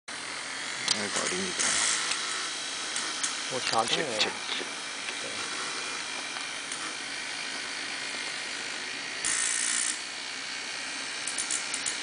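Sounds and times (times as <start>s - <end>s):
electric motor whirring: 0.1s - 12.0s.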